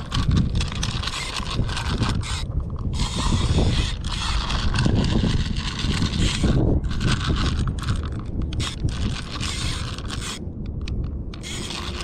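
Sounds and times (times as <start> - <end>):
fishing reel clicking: 0.0 - 12.0.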